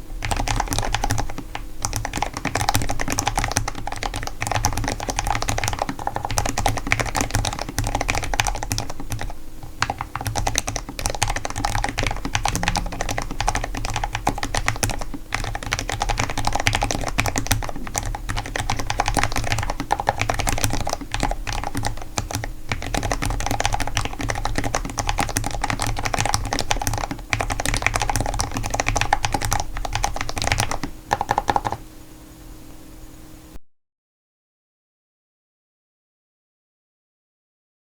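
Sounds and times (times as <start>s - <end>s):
fast mechanical keyboard typing: 0.2s - 31.8s.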